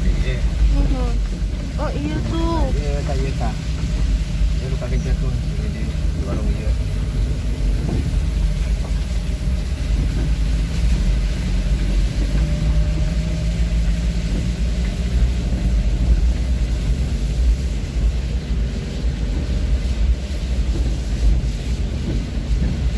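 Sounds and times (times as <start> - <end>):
vehicle engine and road noise: 0.0 - 22.9.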